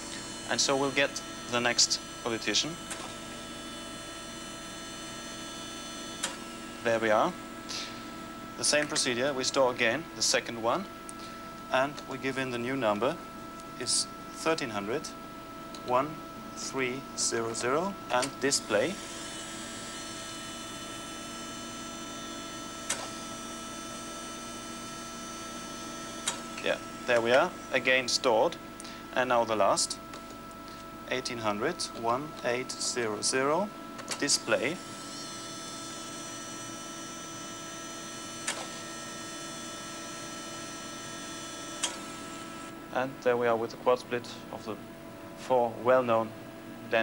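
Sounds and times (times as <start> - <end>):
electrical hum: 0.0 - 47.0.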